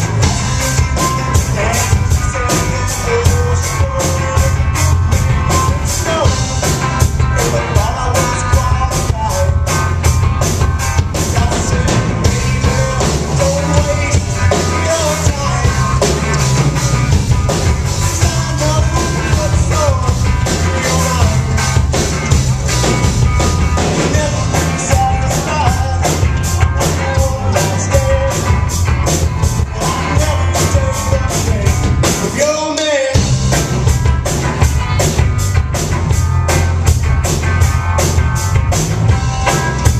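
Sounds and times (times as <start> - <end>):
bass: 0.0 - 39.9
drum kit beat: 0.0 - 39.9
rock melody line: 0.0 - 39.9.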